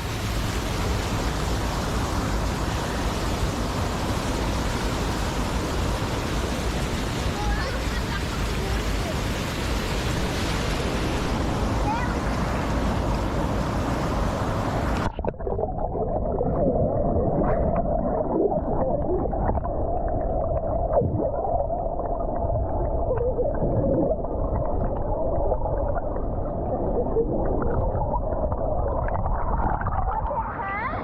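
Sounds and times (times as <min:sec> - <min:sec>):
muffled underwater rushing and gurgling: 0:00.0 - 0:31.0
water rushing: 0:00.0 - 0:31.0.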